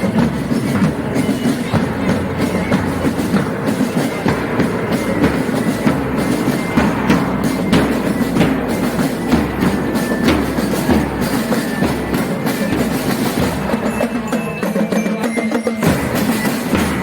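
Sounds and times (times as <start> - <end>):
drums beating a rhythm: 0.0 - 17.0
pitched instruments holding notes: 0.0 - 17.0.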